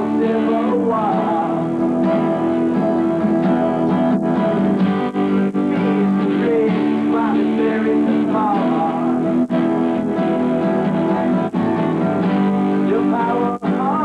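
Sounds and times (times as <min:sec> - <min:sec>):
acoustic guitars jamming: 0:00.0 - 0:14.0.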